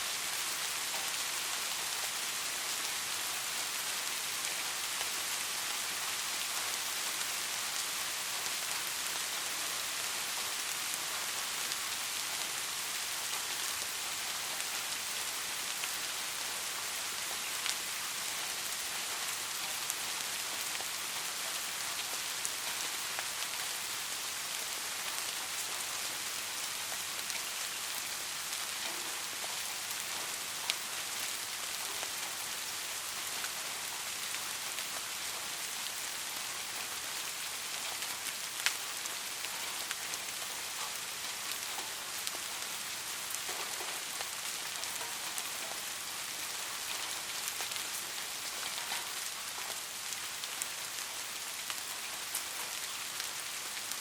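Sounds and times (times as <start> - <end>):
light rain hissing: 0.0 - 54.0.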